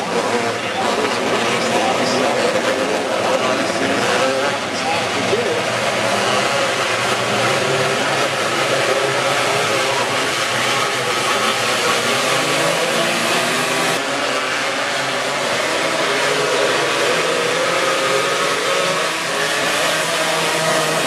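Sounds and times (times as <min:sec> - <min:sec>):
racing car engines droning: 0:00.0 - 0:21.0.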